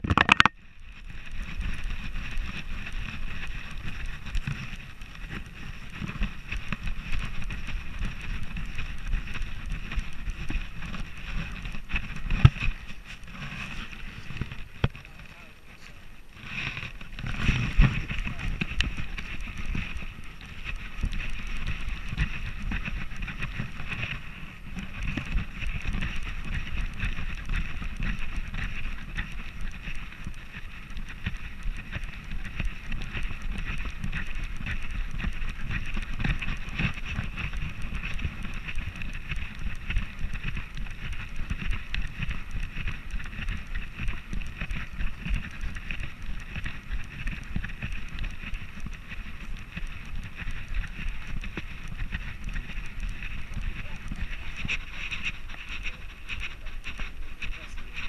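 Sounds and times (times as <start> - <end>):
camera rumbling and knocking: 0.0 - 58.0
wind on microphone: 0.0 - 58.0.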